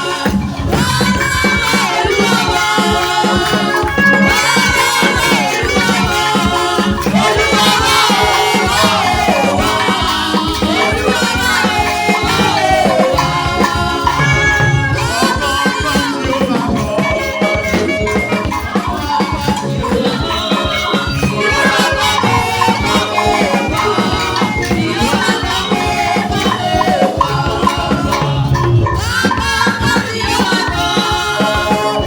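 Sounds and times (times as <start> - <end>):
music with percussive beat: 0.0 - 32.0.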